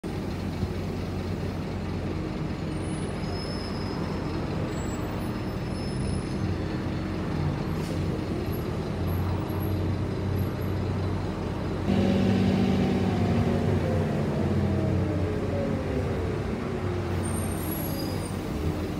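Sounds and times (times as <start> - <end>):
bus diesel engine running: 0.0 - 18.9.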